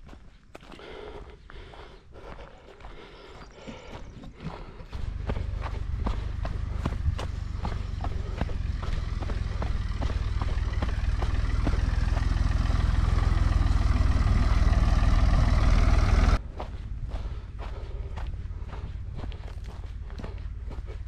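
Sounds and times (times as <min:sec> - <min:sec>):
running footsteps on dirt: 0:00.0 - 0:21.0
atv engine running: 0:03.5 - 0:21.0
heavy low rumble: 0:03.6 - 0:21.0.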